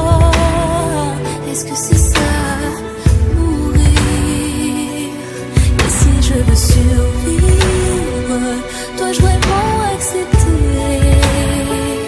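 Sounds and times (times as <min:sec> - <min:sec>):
slow sad pop ballad: 0:00.0 - 0:12.0.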